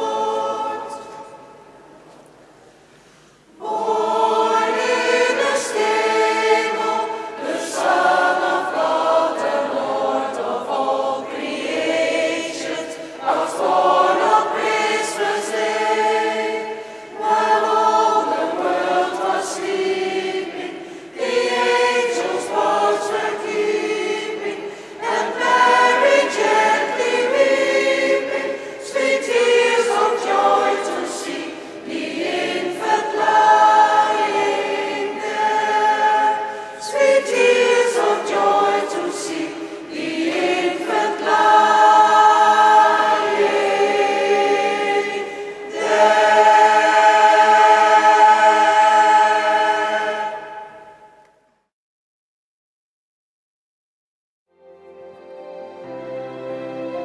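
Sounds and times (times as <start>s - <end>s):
mixed choir singing: 0.0s - 1.7s, 3.5s - 51.2s.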